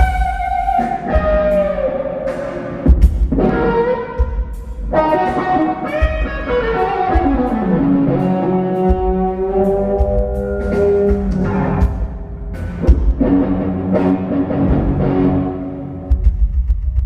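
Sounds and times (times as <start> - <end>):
electric guitar lead: 0.0 - 16.3
bass guitar: 0.0 - 17.0
drums: 0.0 - 17.0.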